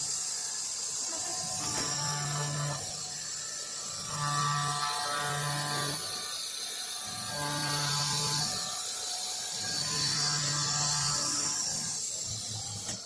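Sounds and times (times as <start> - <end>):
oscillating knife buzzing: 0.0 - 13.0.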